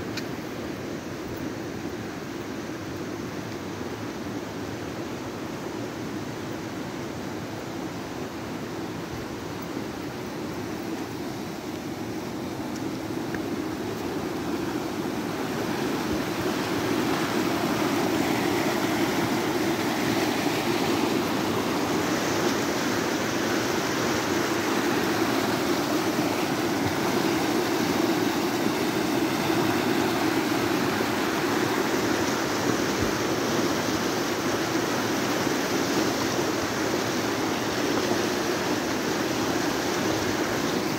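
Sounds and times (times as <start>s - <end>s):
floodwater rushing down rocky channel: 4.6s - 40.9s.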